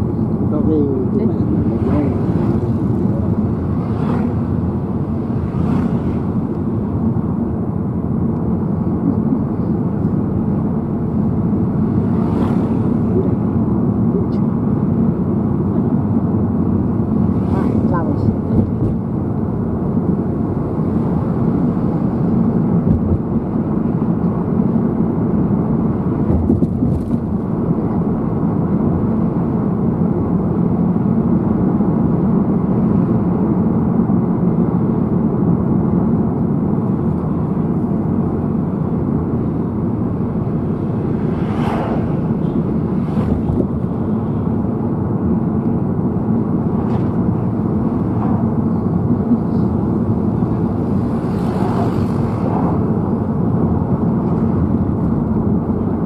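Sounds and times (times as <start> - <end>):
car cabin road and engine drone: 0.0 - 56.0.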